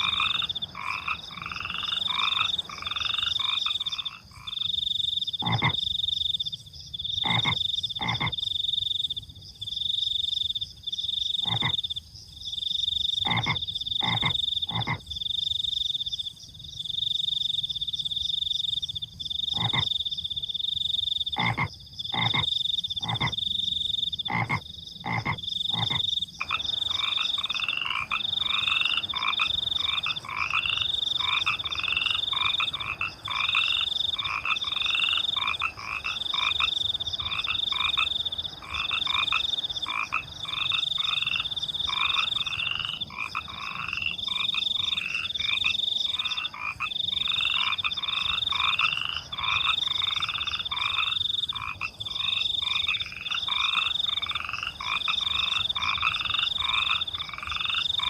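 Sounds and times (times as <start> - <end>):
crickets trilling: 0.0 - 58.0
frogs croaking: 0.0 - 58.0.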